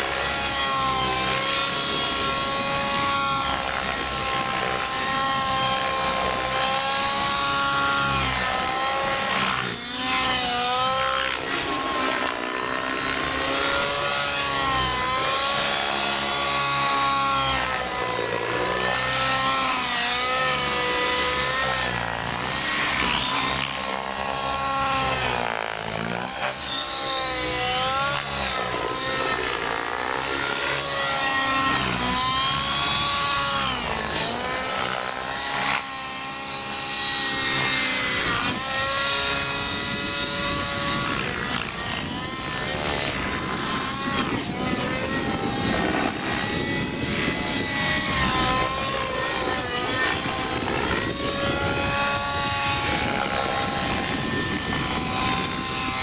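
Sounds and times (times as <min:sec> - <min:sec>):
model helicopter engine whine: 0:00.0 - 0:56.0.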